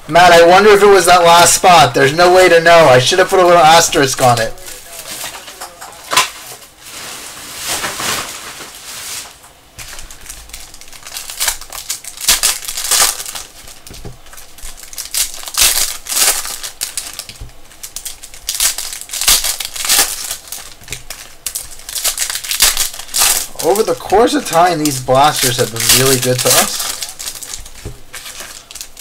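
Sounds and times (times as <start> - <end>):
wrappers tearing and crinkling: 3.1 - 29.0.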